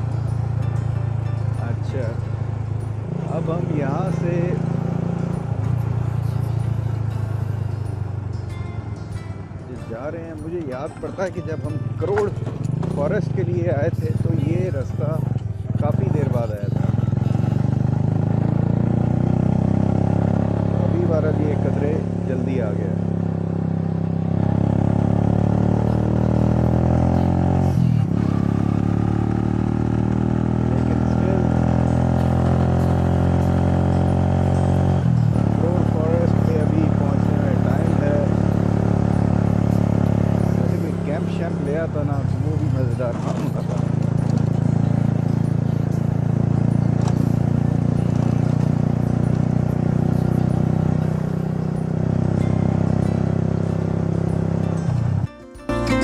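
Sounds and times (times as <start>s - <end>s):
motorcycle engine running: 0.0s - 55.3s.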